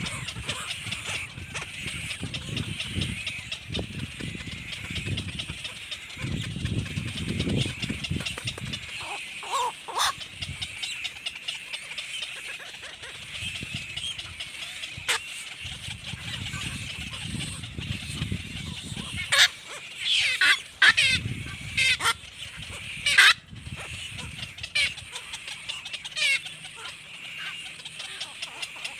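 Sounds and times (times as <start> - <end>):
birds chirping: 0.0 - 28.9.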